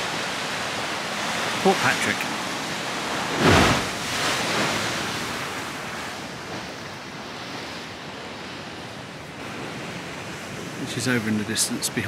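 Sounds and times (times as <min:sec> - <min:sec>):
sea waves surging into rocks: 0:00.0 - 0:12.0.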